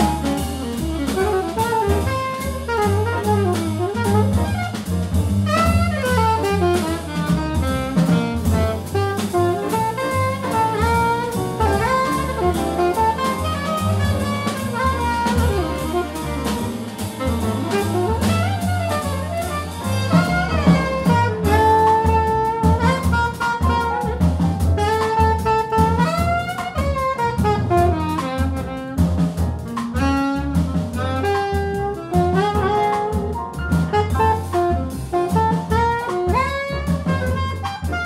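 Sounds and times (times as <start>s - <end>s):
double bass: 0.0s - 38.0s
drum kit with cymbals: 0.0s - 38.0s
piano: 0.0s - 38.0s
saxophone melody: 0.0s - 38.0s.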